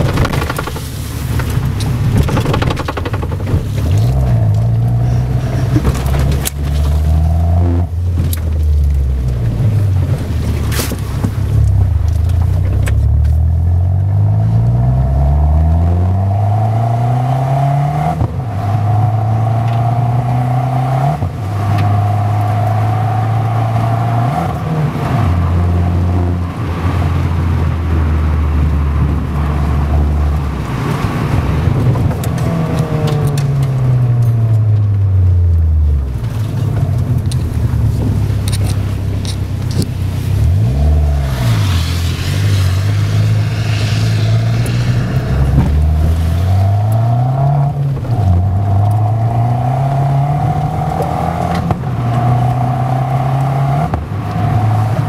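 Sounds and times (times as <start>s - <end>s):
car engine accelerating through gears: 0.0s - 55.0s.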